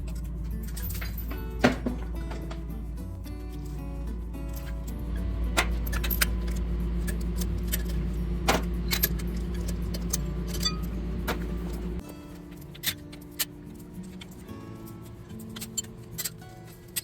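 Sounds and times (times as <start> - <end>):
metal tools clinking: 0.0 - 17.0
steady low hum: 0.0 - 17.0.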